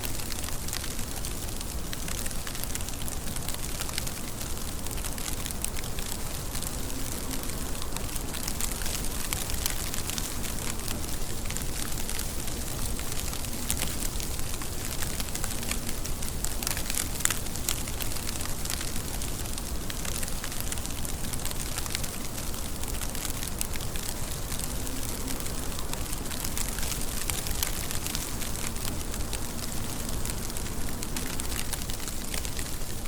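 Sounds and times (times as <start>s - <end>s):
rain pattering on a surface: 0.0s - 33.0s.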